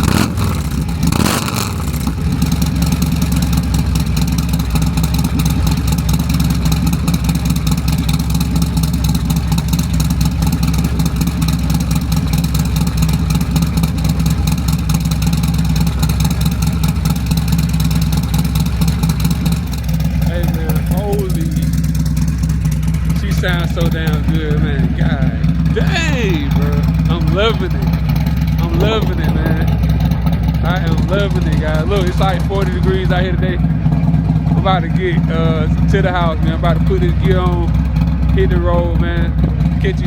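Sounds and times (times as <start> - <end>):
motorcycle engine idling: 0.0 - 40.0.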